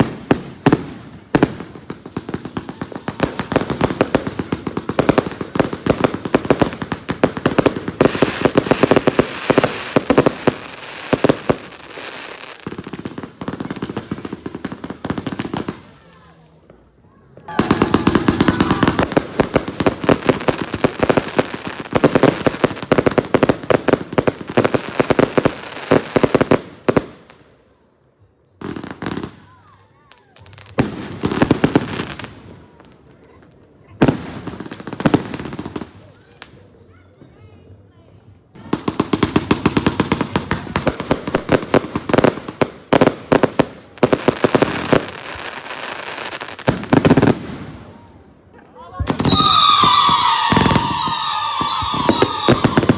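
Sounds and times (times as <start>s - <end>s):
fireworks cracking and popping: 0.0s - 27.4s, 28.6s - 36.7s, 38.6s - 47.9s, 48.6s - 52.9s.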